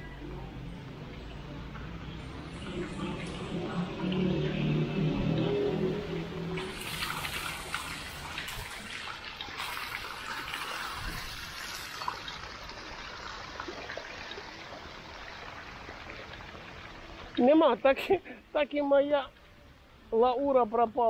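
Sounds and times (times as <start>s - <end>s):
fountain water splashing into pool: 0.9s - 18.0s.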